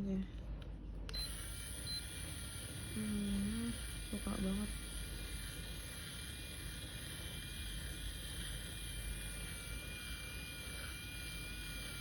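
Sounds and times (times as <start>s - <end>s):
low mechanical hum: 0.0s - 12.0s
faint high whine: 1.1s - 12.0s.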